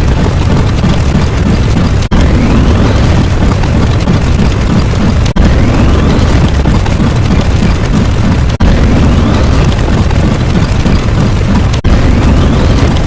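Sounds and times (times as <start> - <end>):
explosion-like rumbling: 0.0 - 13.0.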